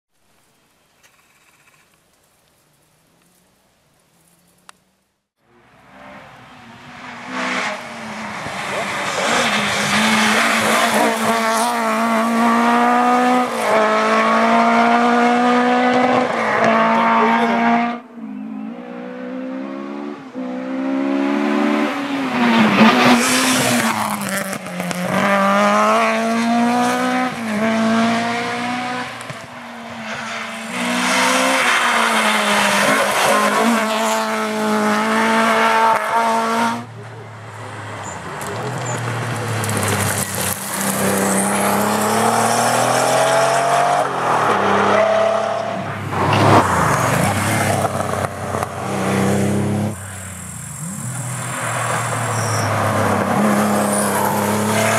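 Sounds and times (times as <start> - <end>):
rally car engine revving: 5.6 - 54.9.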